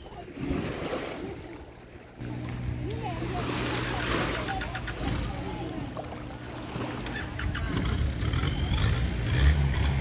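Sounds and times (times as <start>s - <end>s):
faint voices: 0.0s - 9.2s
boat engine humming: 0.0s - 10.0s.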